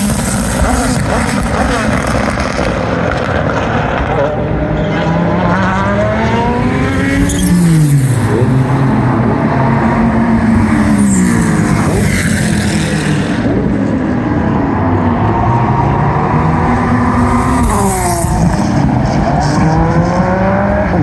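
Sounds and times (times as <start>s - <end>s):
engine crackles: 0.0s - 14.3s, 16.2s - 21.0s
race car engines at high revs: 0.0s - 21.0s.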